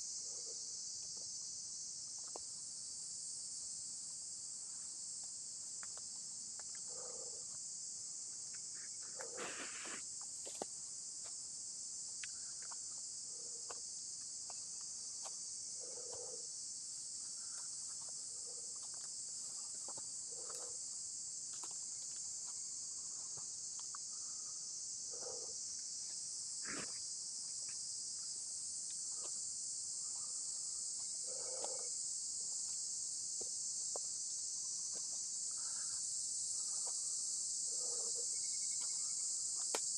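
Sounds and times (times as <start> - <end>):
insect chorus droning: 0.0 - 39.9.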